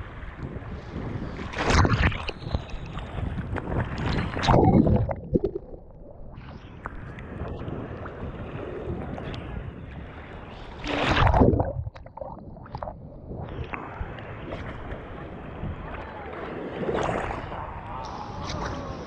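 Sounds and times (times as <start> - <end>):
rush of water: 0.8 - 9.4, 10.5 - 19.0.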